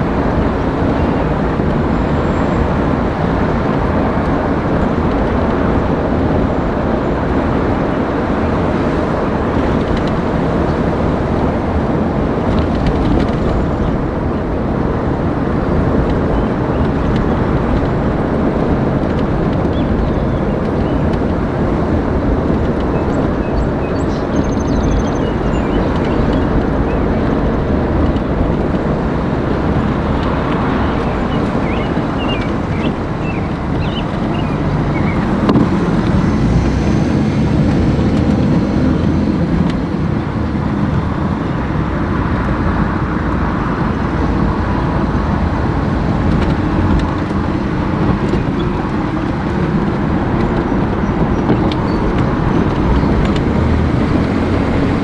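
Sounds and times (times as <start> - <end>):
vehicle road and engine rumble: 0.0 - 55.0.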